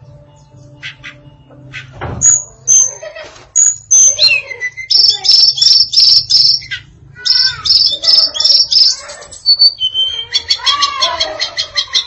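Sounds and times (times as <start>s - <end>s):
bird singing rapid high notes: 0.0s - 3.0s, 3.6s - 10.8s.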